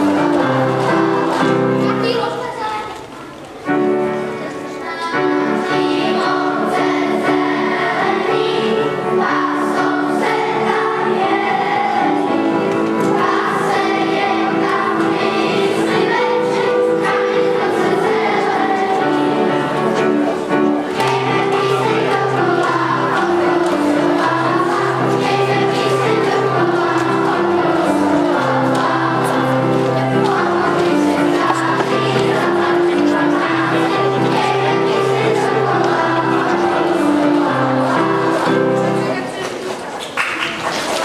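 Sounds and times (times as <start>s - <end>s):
piano chords: 0.0s - 39.5s
children's choir singing: 0.0s - 41.0s.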